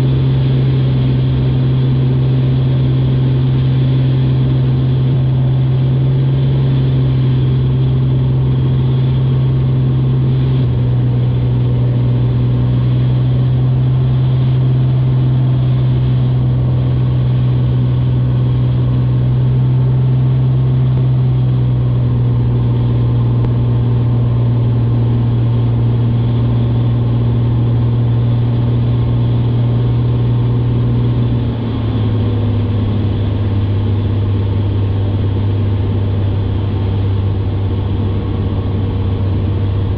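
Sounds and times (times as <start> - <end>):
light airplane engine droning: 0.0 - 39.9.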